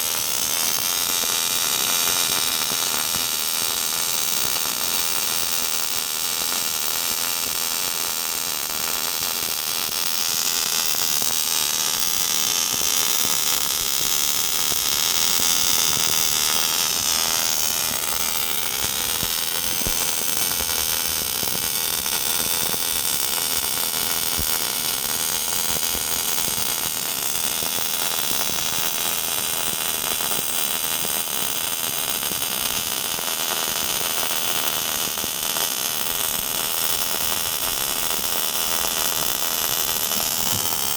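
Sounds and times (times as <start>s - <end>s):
welding arc hissing: 0.0s - 40.9s.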